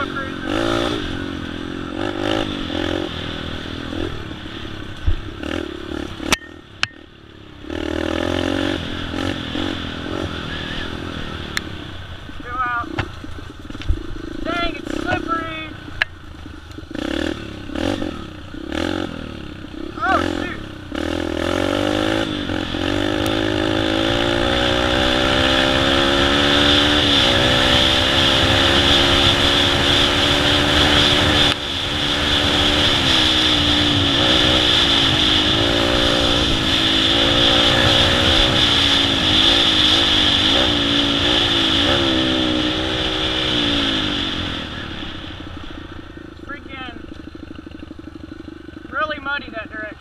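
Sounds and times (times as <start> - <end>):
motorcycle engine under load: 0.0 - 50.0.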